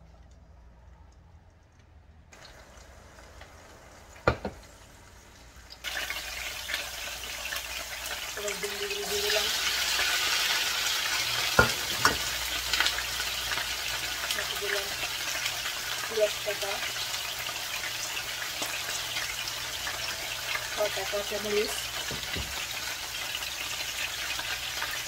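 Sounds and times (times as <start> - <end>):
hot oil sizzling: 2.3 - 25.0.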